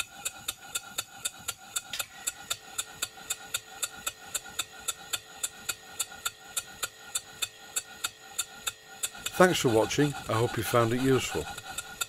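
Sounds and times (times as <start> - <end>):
steam engine exhaust beats: 0.0 - 12.0.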